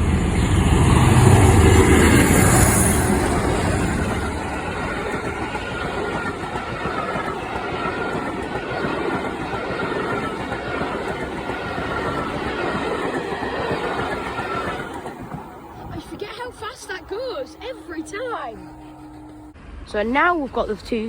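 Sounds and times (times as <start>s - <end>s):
train wheels clattering on rail: 0.0s - 19.6s.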